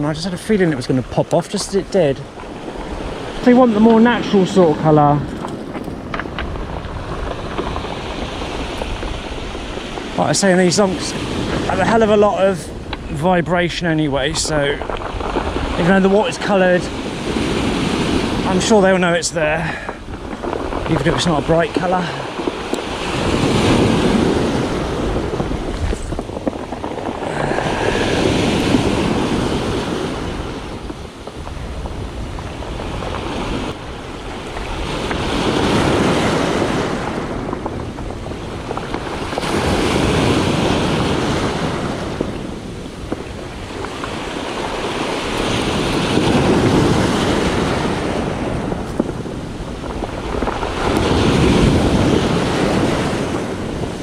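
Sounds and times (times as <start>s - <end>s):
waves washing over pebbles: 0.0s - 54.0s.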